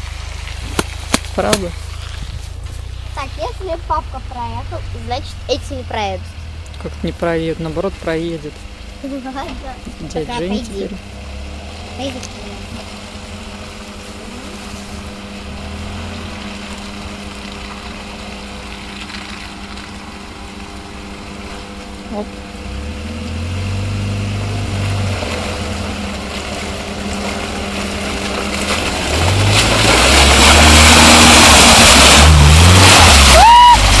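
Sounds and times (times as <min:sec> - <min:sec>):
off-road vehicle engine revving: 0:00.0 - 0:34.0
rush of spraying mud and water: 0:00.0 - 0:34.0.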